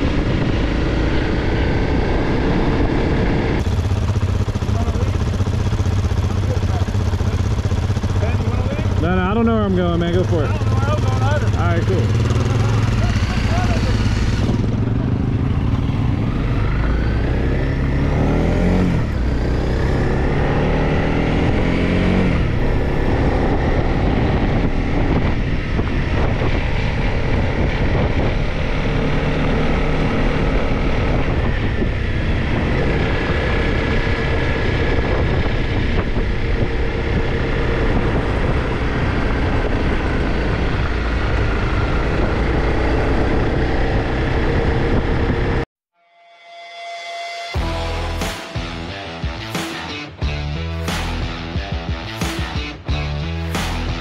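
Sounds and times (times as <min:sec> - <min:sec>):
motorcycle engine accelerating: 0:00.0 - 0:45.7, 0:47.5 - 0:54.0.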